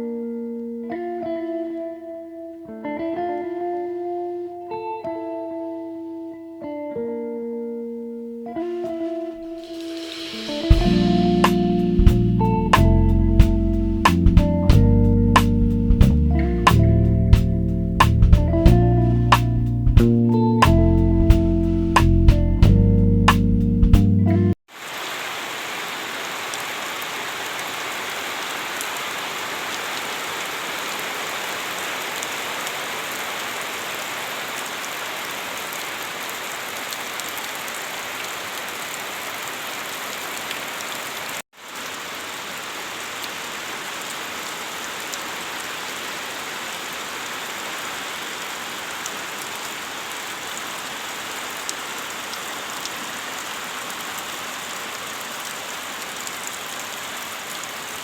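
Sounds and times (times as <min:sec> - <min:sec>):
steady rain with drop ticks: 0:08.5 - 0:23.5, 0:24.7 - 0:58.0.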